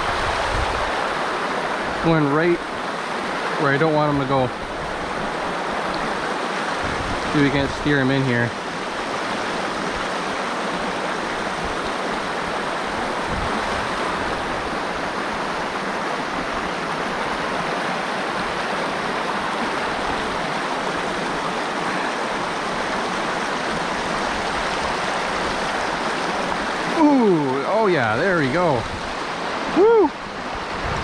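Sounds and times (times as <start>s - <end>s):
river rushing: 0.0s - 31.0s.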